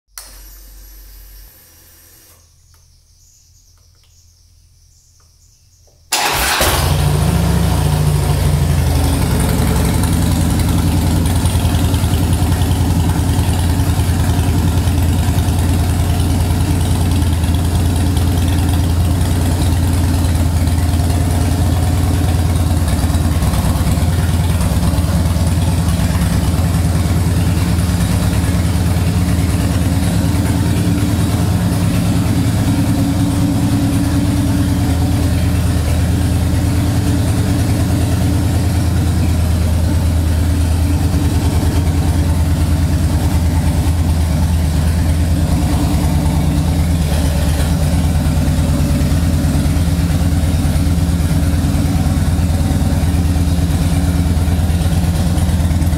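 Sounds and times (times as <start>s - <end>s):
motorcycle engine starting and idling: 6.1s - 55.9s.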